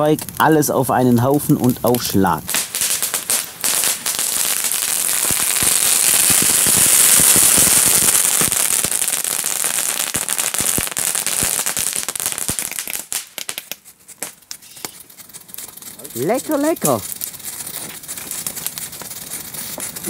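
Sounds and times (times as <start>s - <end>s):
fireworks crackling pops: 0.0s - 20.0s
fireworks hissing sparks: 0.0s - 20.0s.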